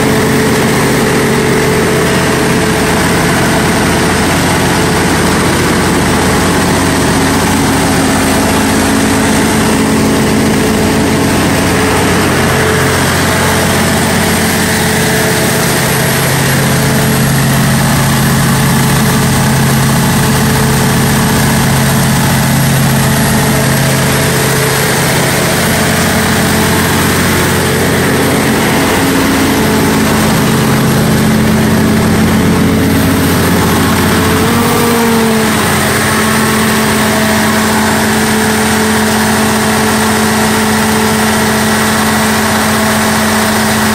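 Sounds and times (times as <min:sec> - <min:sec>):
diesel generator running: 0:00.0 - 0:43.9.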